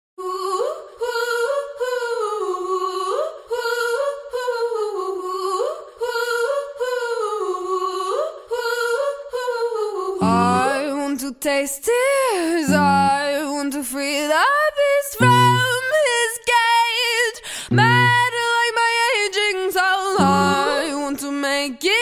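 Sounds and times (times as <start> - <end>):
woman singing wordless melody: 0.2 - 22.0.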